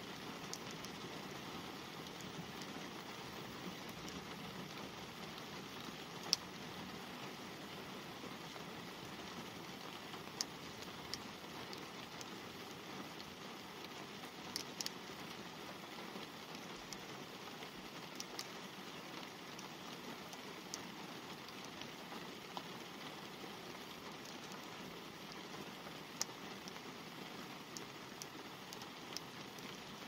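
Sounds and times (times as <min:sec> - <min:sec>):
light rain hissing: 0:00.0 - 0:30.0.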